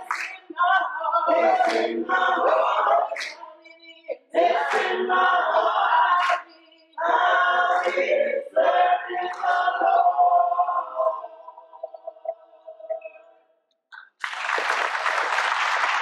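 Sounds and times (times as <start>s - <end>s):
group singing gospel song: 0.0s - 13.3s.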